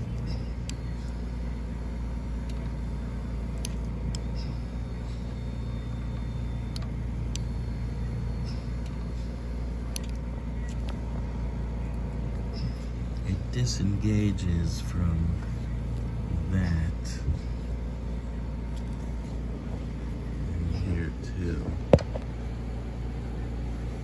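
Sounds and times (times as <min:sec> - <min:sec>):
recliner motor droning: 0:00.0 - 0:24.0.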